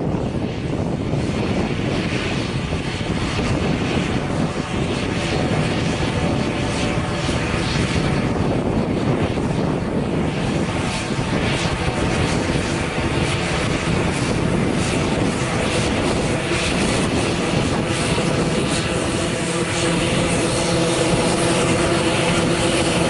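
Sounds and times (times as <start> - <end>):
turboprop engines running: 0.0 - 23.0.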